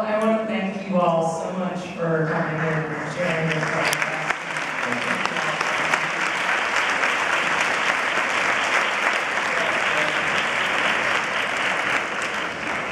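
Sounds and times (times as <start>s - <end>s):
audience applauding: 2.4s - 12.9s.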